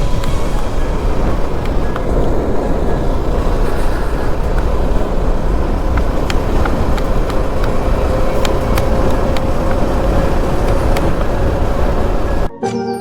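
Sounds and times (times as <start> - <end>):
faint clicks: 0.0 - 12.5
motorcycle engine: 0.0 - 12.5
wind noise: 0.0 - 12.5.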